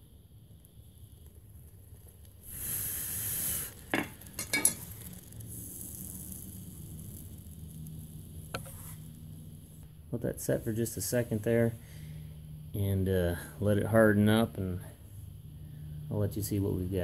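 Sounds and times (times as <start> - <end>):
molten metal hissing in mould: 0.0 - 17.0.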